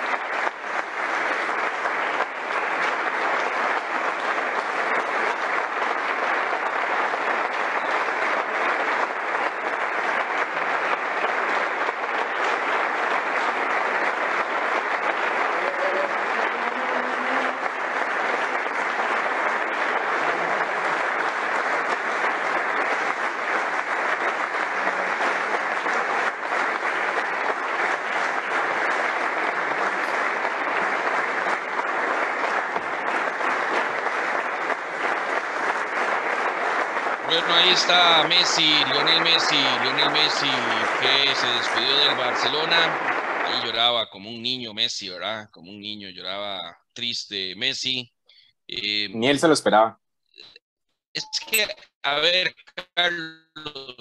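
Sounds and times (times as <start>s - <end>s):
audience applause: 0.0s - 48.0s, 51.2s - 54.0s.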